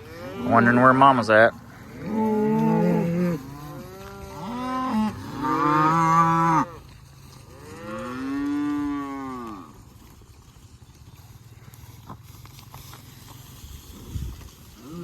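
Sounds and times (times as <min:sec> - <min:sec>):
calves bawling: 0:00.0 - 0:15.0.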